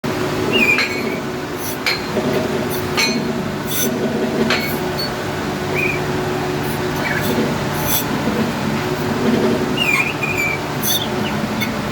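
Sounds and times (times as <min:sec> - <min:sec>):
gearbox humming: 0:00.1 - 0:11.9.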